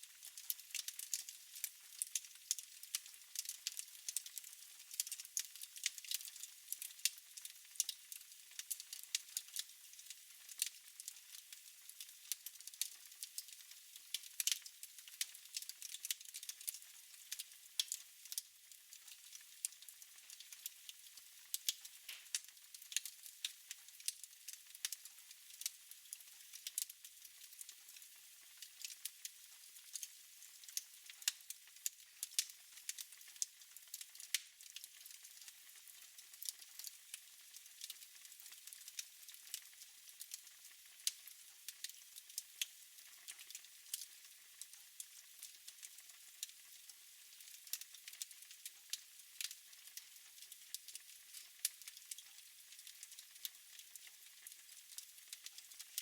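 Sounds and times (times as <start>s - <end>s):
fire crackling in fireplace: 0.0s - 56.0s.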